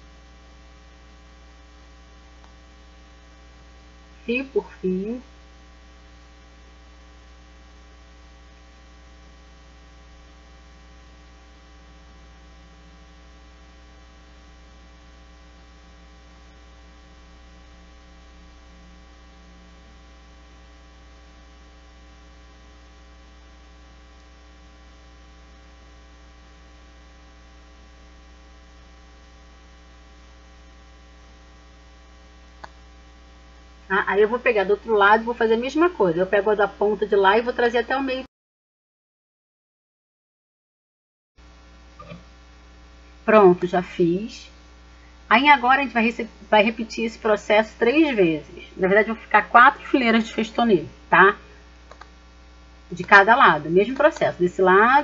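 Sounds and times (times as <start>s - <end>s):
electrical mains hum: 0.0s - 38.3s, 41.4s - 55.0s.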